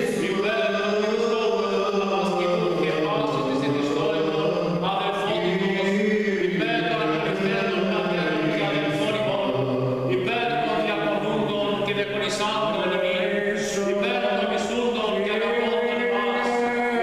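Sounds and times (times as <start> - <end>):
voices singing unaccompanied chant: 0.0 - 17.0.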